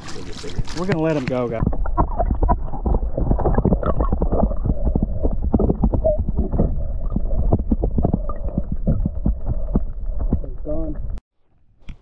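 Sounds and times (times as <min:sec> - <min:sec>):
muffled water sloshing: 0:00.0 - 0:11.2
low rumble: 0:01.6 - 0:11.2.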